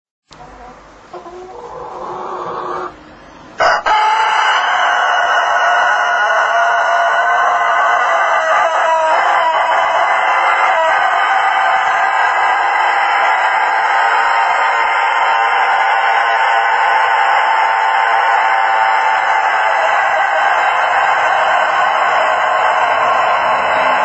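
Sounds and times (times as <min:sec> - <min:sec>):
rooster crowing: 0:03.6 - 0:24.0.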